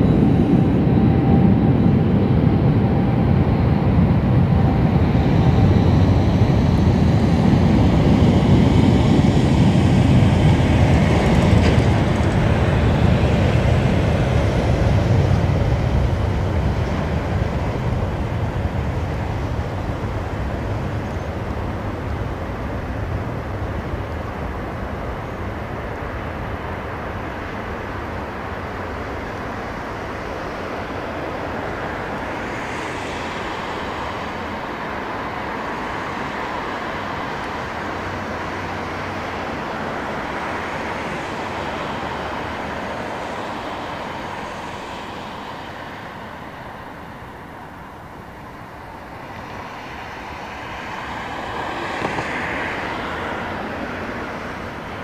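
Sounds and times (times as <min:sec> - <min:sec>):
jet engines at takeoff thrust: 0:00.0 - 0:55.0.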